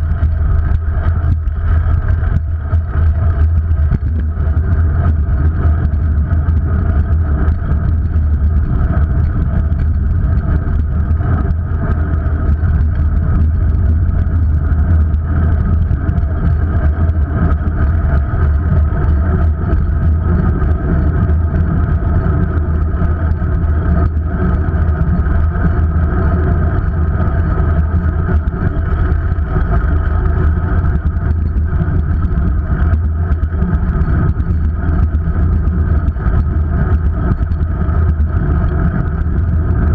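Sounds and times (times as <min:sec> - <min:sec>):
road noise: 0:00.0 - 0:39.9
steady hum: 0:00.0 - 0:39.9
wind rumble: 0:00.0 - 0:39.9.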